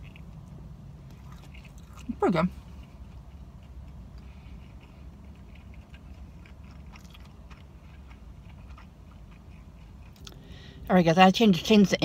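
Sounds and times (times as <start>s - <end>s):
chewing with wet mouth clicks: 0.0s - 10.4s
low steady hum: 0.0s - 12.0s.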